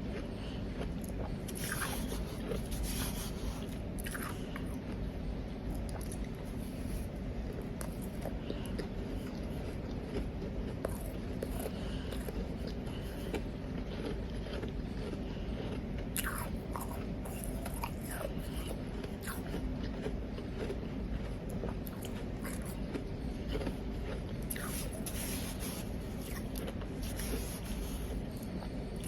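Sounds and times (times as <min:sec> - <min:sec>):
person chewing ice: 0:00.0 - 0:29.0.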